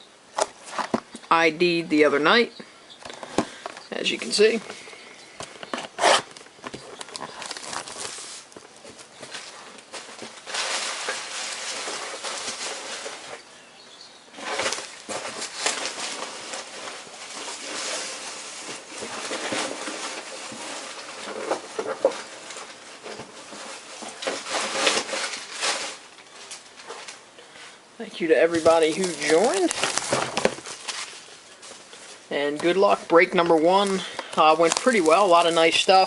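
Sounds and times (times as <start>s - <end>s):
plastic wrap and cardboard crinkling: 3.0s - 36.0s.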